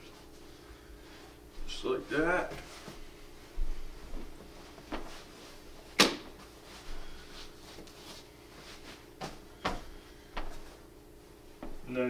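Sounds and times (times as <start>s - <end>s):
mat fabric rustling: 0.0s - 12.0s.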